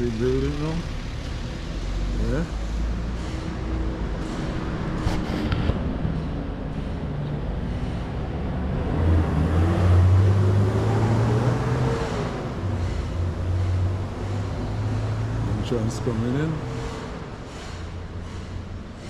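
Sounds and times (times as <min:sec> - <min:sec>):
steady outdoor noise: 0:00.0 - 0:19.0
vehicle engine running nearby: 0:00.0 - 0:19.0.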